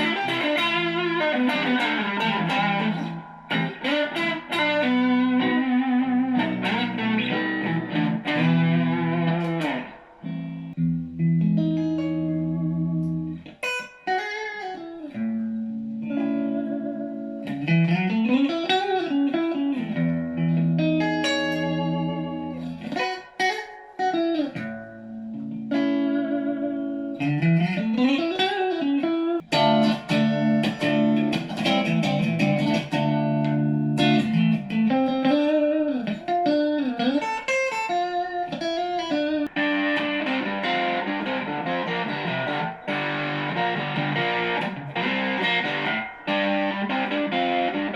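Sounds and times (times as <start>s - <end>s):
electric guitar with bent notes: 0.0s - 47.9s.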